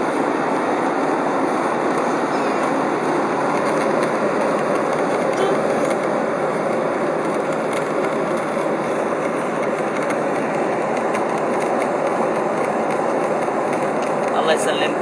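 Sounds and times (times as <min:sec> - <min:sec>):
airliner cabin engine and airflow noise: 0:00.0 - 0:15.0.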